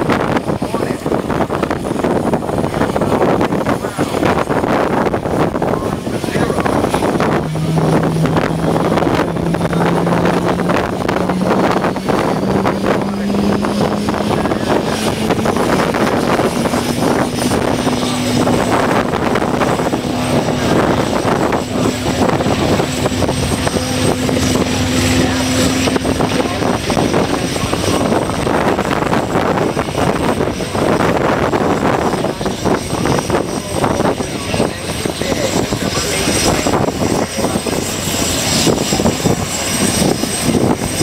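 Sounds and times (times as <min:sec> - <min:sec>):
aircraft engine humming: 0:00.0 - 0:41.0.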